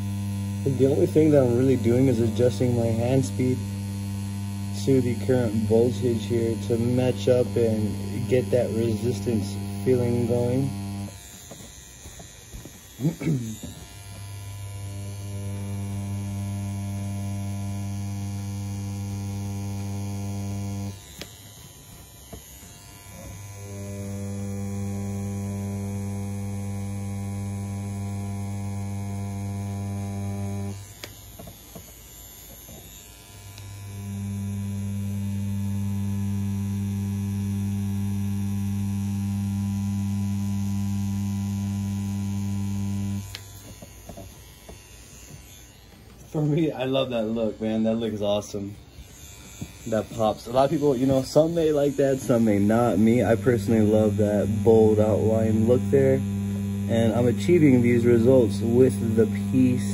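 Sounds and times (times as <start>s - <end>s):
tattoo pen humming: 0.0s - 59.9s.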